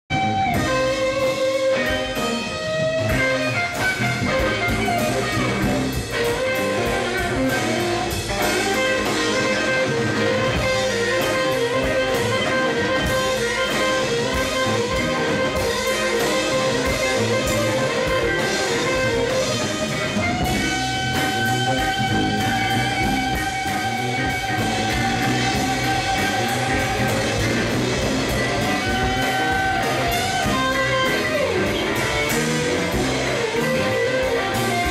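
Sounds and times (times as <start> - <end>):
drums: 0.0 - 34.9
electric guitars: 0.1 - 34.9.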